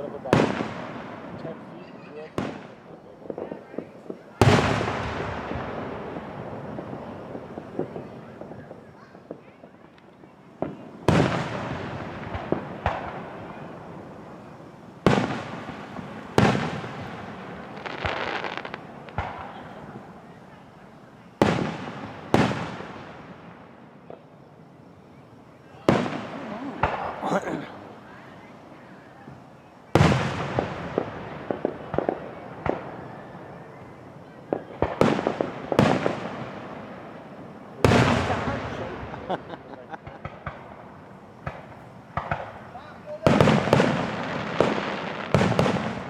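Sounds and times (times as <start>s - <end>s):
small firework pops: 0.0s - 20.7s, 21.4s - 24.4s, 25.8s - 28.2s, 29.0s - 39.2s, 40.0s - 46.0s
fast firework crackling: 0.0s - 24.0s, 24.8s - 46.0s
loud firework booms echoing: 0.0s - 46.0s.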